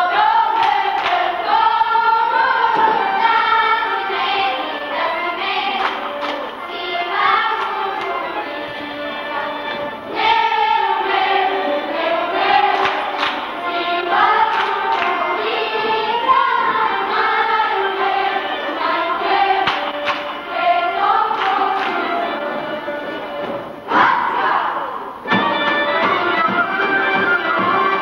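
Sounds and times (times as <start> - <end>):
children singing together: 0.0 - 28.0.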